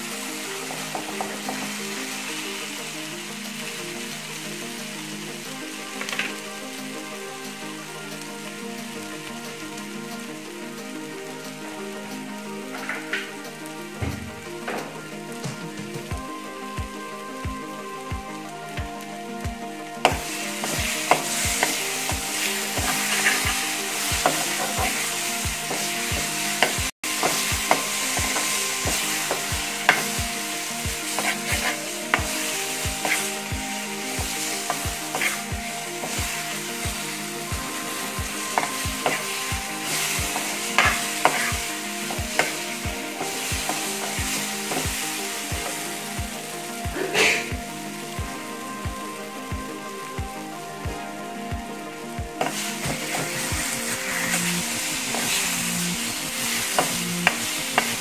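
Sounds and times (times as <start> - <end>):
paste sizzling in hot oil: 0.0 - 15.4, 16.0 - 50.6, 51.7 - 58.0.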